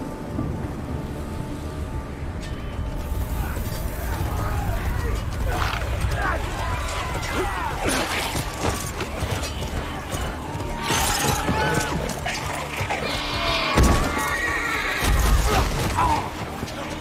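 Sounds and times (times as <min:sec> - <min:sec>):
dramatic orchestral score: 0:00.0 - 0:17.0.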